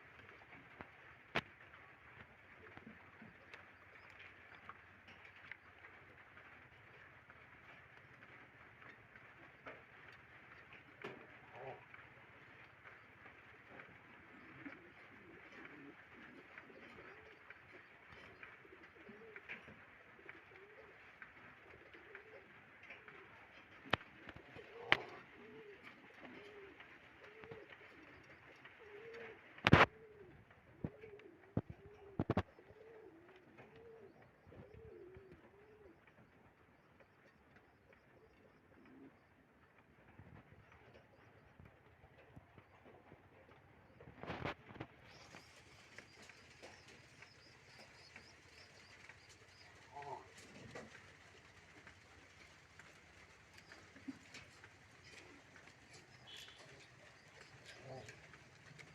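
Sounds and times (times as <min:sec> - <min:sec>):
pigeons cooing: 0:09.2 - 0:39.4, 0:40.0 - 0:58.9.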